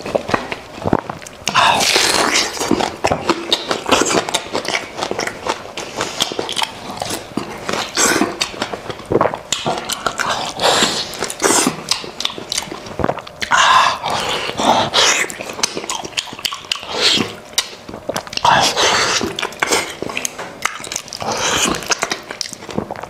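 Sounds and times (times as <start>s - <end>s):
person eating meat off bone: 0.0s - 23.0s.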